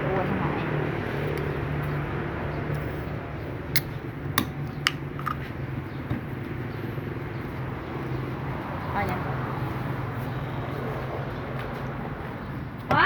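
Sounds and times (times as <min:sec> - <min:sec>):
low hum of moving vehicle: 0:00.0 - 0:13.0.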